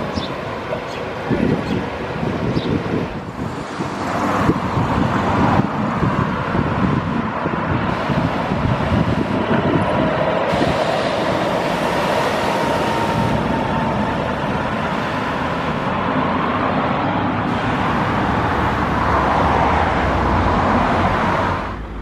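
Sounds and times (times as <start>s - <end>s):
bus diesel engine driving past: 0.0s - 22.0s.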